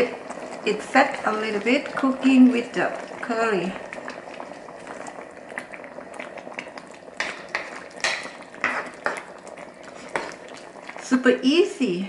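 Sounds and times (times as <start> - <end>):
curry bubbling and popping: 0.0 - 12.0
spatula stirring curry: 0.2 - 11.1.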